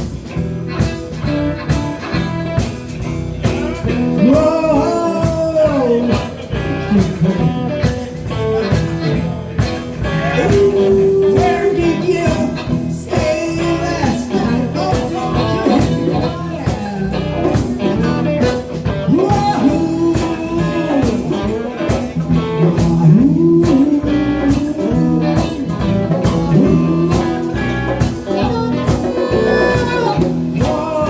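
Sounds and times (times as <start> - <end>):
bass guitar: 0.0 - 31.0
drum kit steady beat: 0.0 - 31.0
electric guitar bending notes: 0.0 - 31.0.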